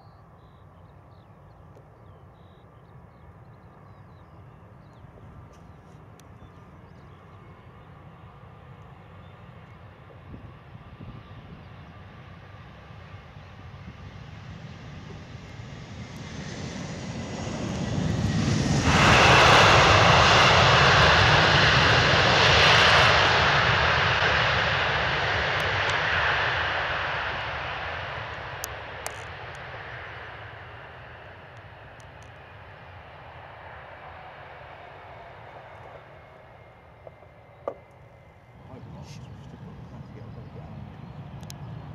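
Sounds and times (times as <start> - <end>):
jet engines whining on landing: 0.0 - 41.9.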